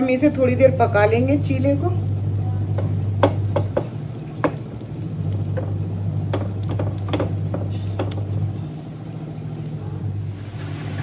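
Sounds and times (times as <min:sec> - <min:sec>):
induction cooktop humming: 0:00.0 - 0:11.0.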